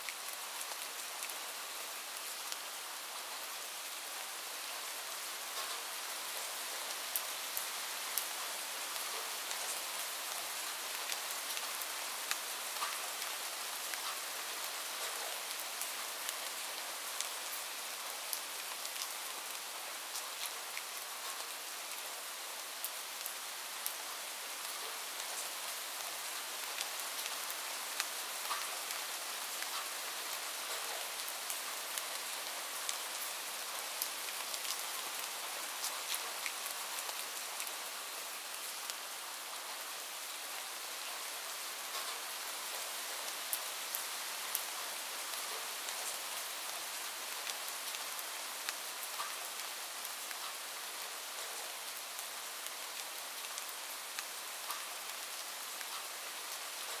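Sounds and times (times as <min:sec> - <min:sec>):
light rain hissing: 0:00.0 - 0:57.0.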